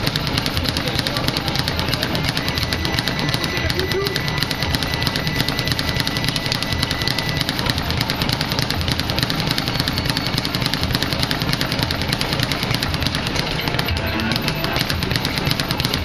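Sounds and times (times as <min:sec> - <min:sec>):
speed bag rattling: 0:00.0 - 0:16.0.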